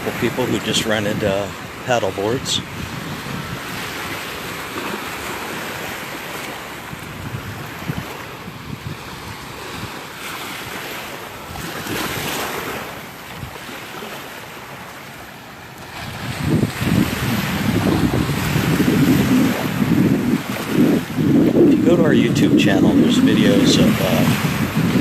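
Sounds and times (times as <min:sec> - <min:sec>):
wind rumbling on microphone: 0:00.0 - 0:13.8, 0:15.8 - 0:25.0
surf washing onto beach: 0:00.0 - 0:25.0.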